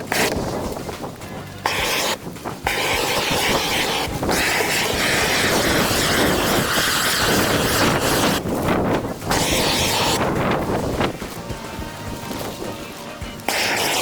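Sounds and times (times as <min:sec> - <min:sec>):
loud steady rushing noise: 0:00.0 - 0:14.0.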